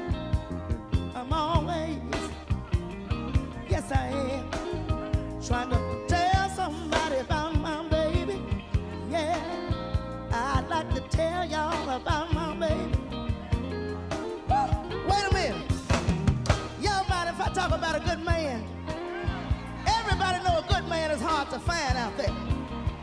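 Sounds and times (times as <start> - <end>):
bending lead guitar melody: 0.0 - 23.0
live blues band playing: 0.0 - 23.0.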